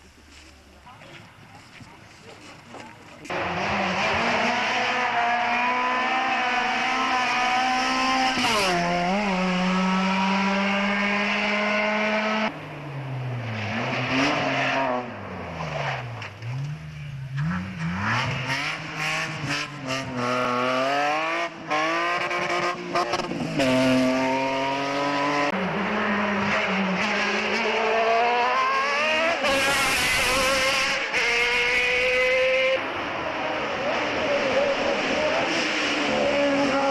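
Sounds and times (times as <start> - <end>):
race car engines accelerating: 3.2 - 36.9.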